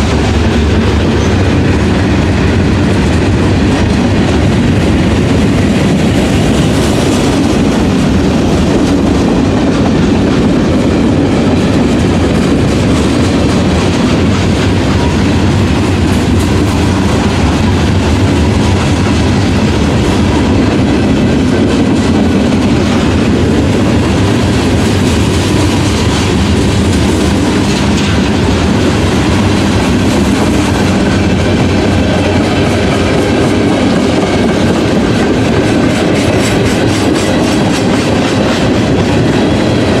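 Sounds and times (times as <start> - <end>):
train cars rumbling past: 0.0 - 40.0
wheels clacking over rail joints: 0.0 - 40.0.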